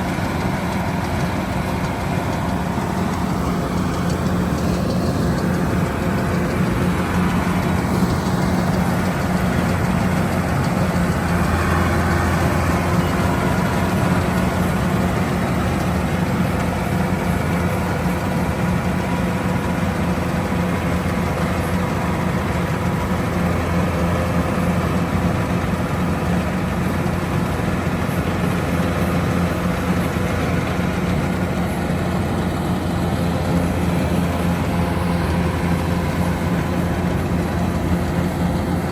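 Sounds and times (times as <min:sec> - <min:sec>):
diesel engine drone: 0:00.0 - 0:38.9
threshing machinery noise: 0:00.0 - 0:38.9.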